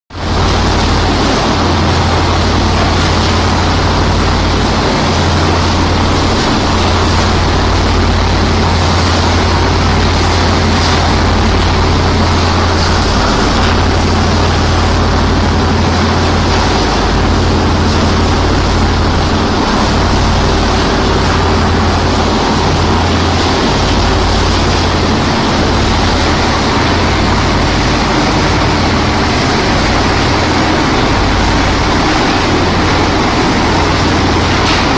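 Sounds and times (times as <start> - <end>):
machine mechanical drone: 0.1 - 34.9
water and sand rushing: 0.1 - 34.9.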